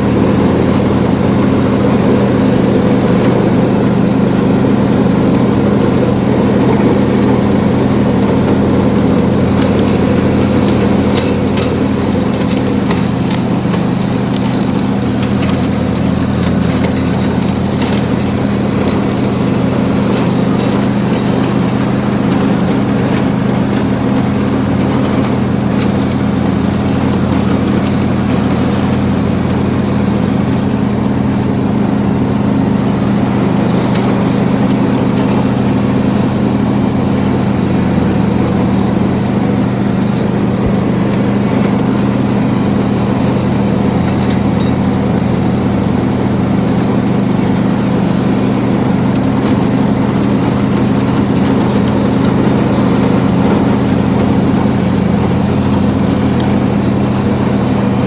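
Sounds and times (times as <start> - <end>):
riding lawn mower engine: 0.0 - 58.0.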